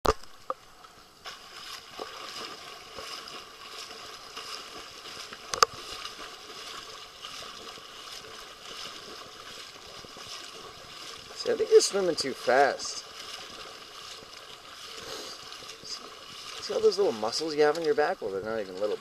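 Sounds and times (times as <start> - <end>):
water splashing from swimming: 0.0 - 19.0.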